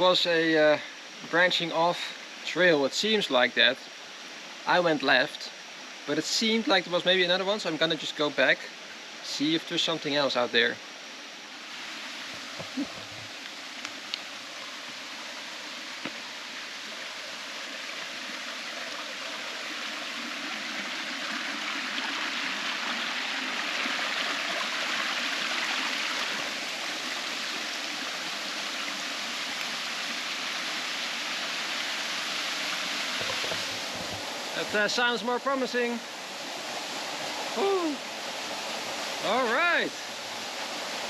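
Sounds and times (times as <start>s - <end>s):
mountain stream rushing: 0.0s - 41.0s.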